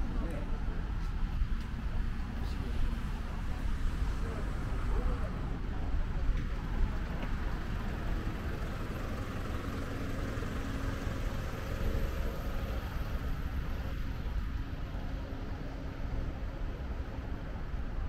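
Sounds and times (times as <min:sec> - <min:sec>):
faint engine hum: 0:00.0 - 0:18.0
road traffic rumble: 0:00.0 - 0:18.0.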